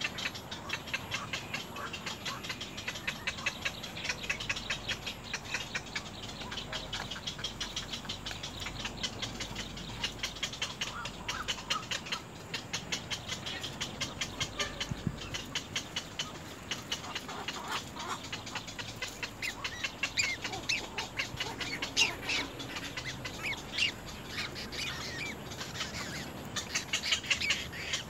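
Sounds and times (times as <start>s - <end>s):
rapid ticking animal calls: 0.0s - 28.0s.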